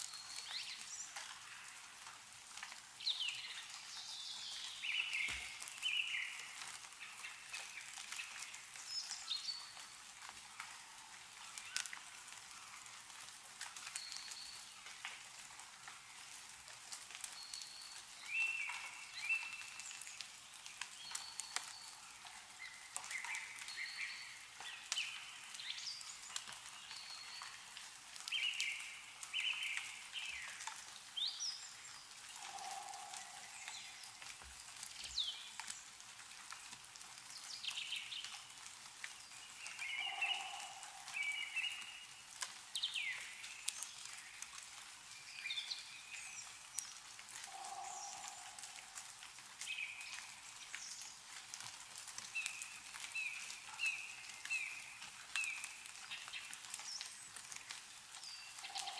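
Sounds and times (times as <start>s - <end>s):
meltwater dripping from trees: 0.0s - 58.9s
songbirds calling: 3.0s - 12.8s, 17.2s - 36.0s, 37.2s - 51.2s, 52.3s - 58.9s.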